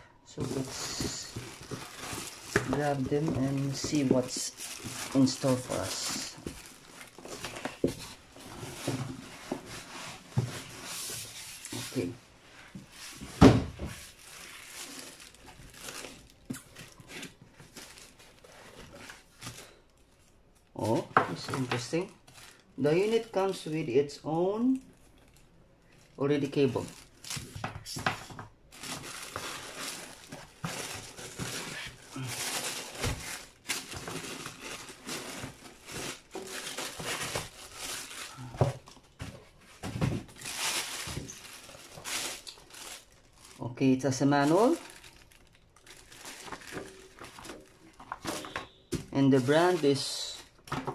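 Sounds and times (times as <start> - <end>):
plastic wrapping crinkling: 0.3 - 23.7, 24.5 - 50.9
foam and plastic rustling: 0.3 - 23.8, 24.4 - 50.9.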